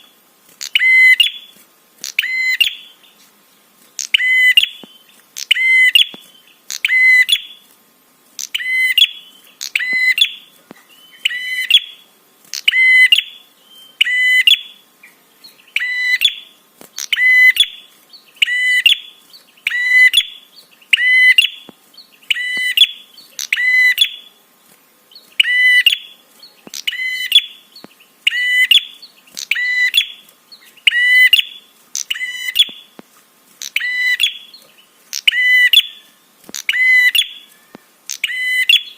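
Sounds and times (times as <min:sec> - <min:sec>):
bird chirping call: 0:00.0 - 0:07.7, 0:08.4 - 0:24.4, 0:25.1 - 0:33.0, 0:33.6 - 0:38.9.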